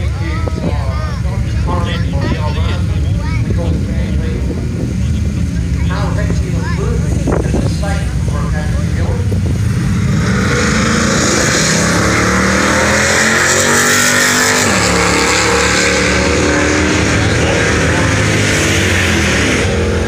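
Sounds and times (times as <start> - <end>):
cars racing at full throttle: 0.0 - 20.0.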